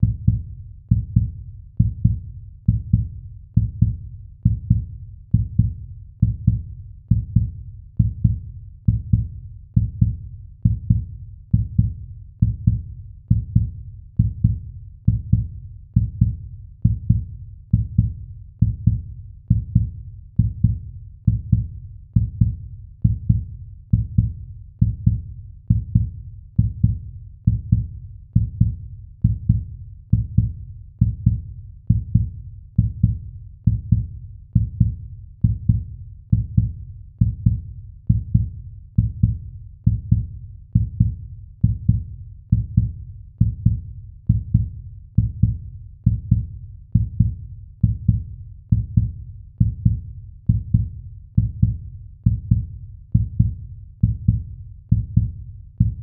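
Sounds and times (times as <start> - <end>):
heartbeat double thumps: 0.0 - 56.0.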